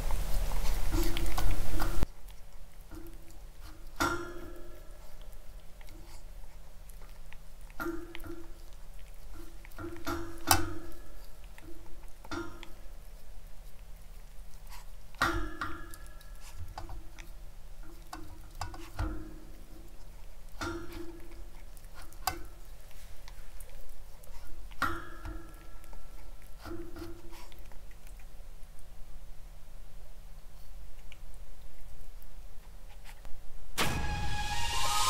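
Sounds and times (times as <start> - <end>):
puppy chewing and crunching food: 0.0 - 33.6.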